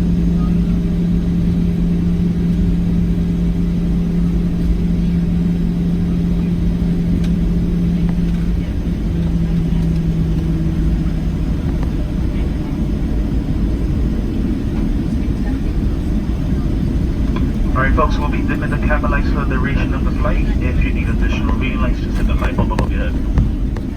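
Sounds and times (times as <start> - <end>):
deep low rumble: 0.0 - 23.9
jet engine hum: 0.0 - 23.9.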